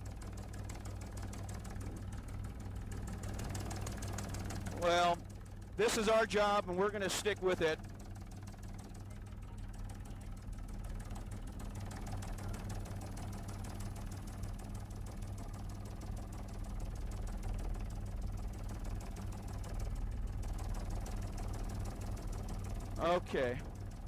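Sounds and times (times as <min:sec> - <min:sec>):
helicopter engine and rotor: 0:00.2 - 0:24.0.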